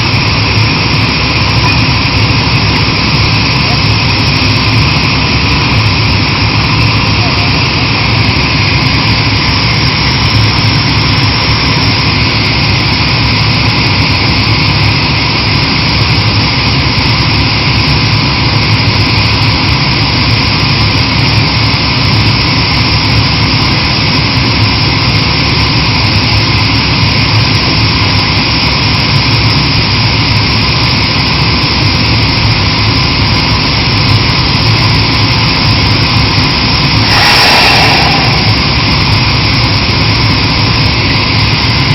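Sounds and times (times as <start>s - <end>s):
drilling rig machine drone: 0.0s - 41.9s.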